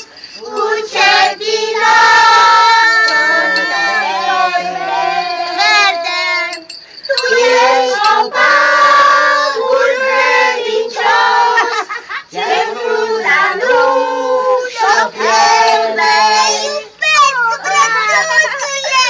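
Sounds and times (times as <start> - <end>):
voices singing a carol: 0.0 - 19.0.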